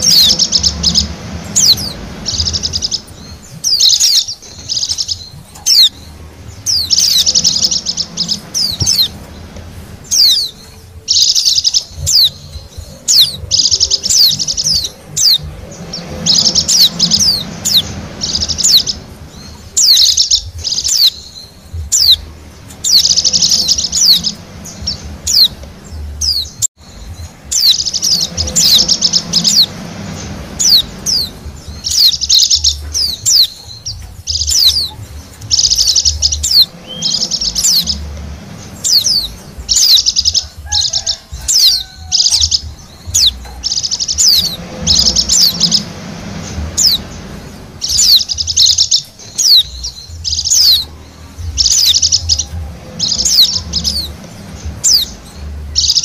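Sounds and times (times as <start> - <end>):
birds twittering and trilling: 0.0 - 56.0.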